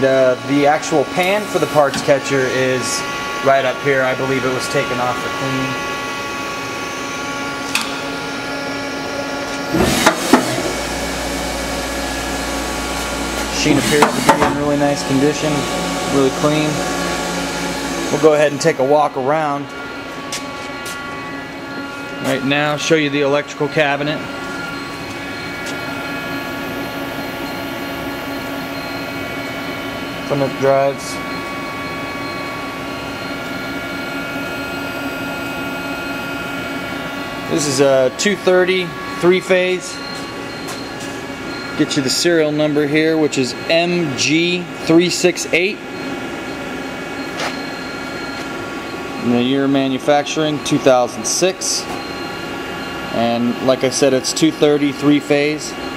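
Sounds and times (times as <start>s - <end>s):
electrical cabinet hum with fans: 0.0s - 55.9s
machine spindle whine: 0.0s - 55.9s.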